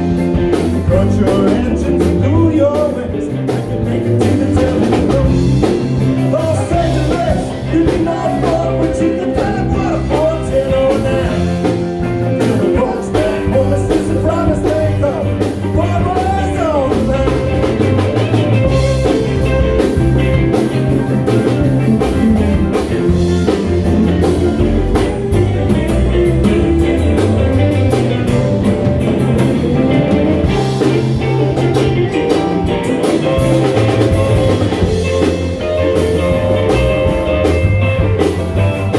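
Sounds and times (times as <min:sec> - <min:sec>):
bass: 0:00.0 - 0:38.9
drum kit: 0:00.0 - 0:38.9
electric guitar: 0:00.0 - 0:38.9.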